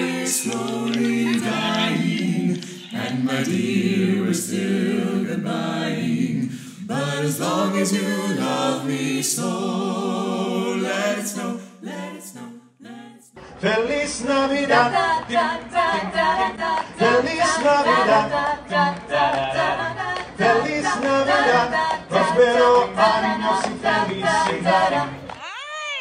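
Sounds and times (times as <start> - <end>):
carolers singing in harmony: 0.0 - 25.4.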